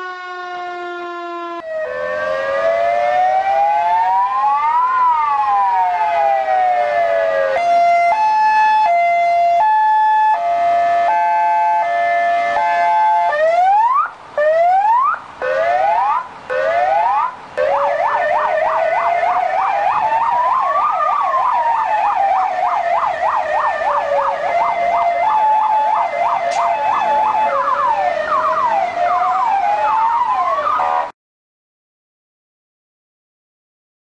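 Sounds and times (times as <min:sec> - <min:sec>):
fire engine siren: 0:00.0 - 0:31.1.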